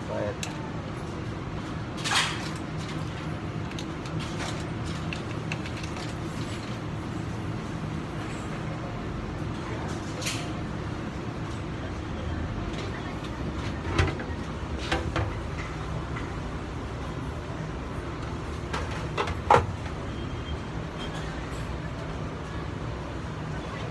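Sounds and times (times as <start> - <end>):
vending machine humming: 0.0 - 23.9.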